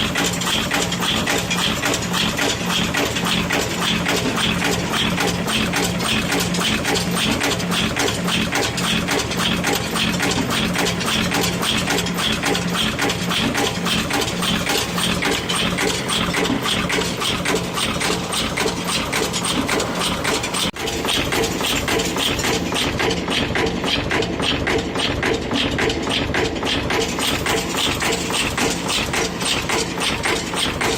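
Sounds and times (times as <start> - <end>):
pulsing machine hum: 0.0 - 30.9.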